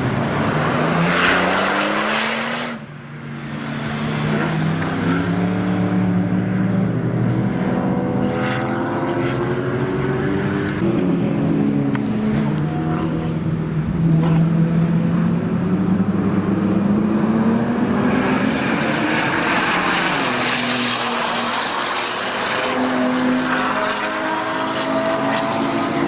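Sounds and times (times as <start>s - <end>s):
sports car accelerating past: 0.0s - 2.8s, 3.4s - 26.0s.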